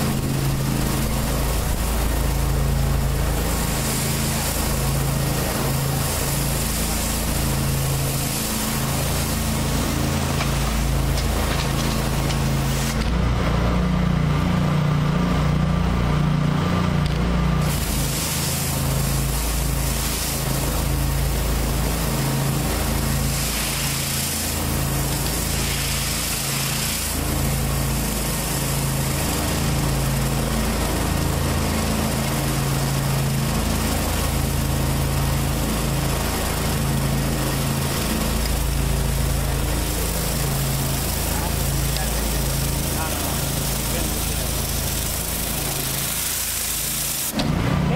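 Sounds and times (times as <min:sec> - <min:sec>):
water spray hiss: 0:00.0 - 0:13.0, 0:17.6 - 0:47.4
pressure washer engine running: 0:00.0 - 0:47.9.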